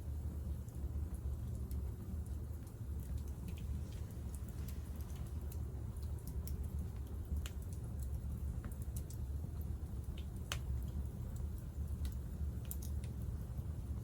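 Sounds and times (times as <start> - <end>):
wood fire crackling: 0.1 - 14.0.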